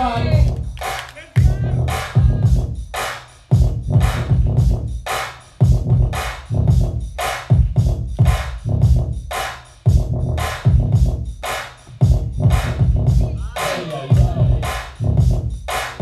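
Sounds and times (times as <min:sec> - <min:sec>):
electronic dance music: 0:00.0 - 0:08.6, 0:09.2 - 0:16.0.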